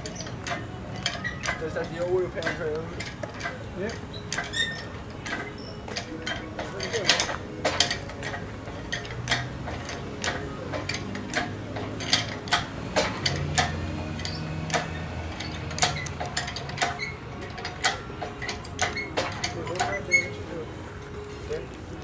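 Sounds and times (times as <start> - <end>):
metallic tool clicks and clanks: 0.0 - 20.4.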